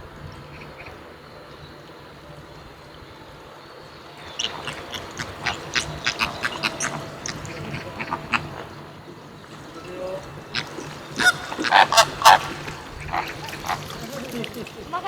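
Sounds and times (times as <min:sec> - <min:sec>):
flamingos honking: 0:00.0 - 0:15.0.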